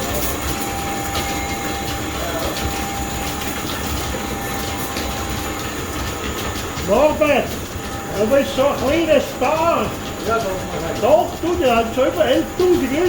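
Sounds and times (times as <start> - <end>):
machinery mechanical clatter: 0.0 - 13.0.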